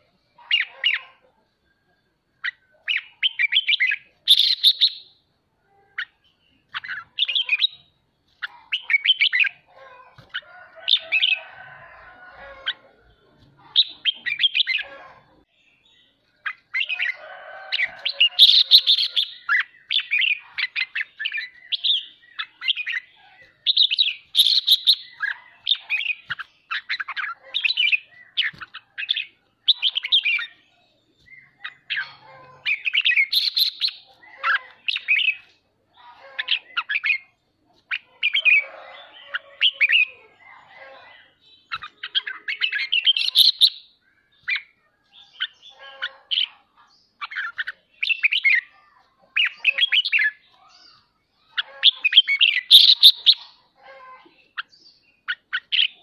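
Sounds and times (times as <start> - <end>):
bird chirping song: 0.0 - 56.0.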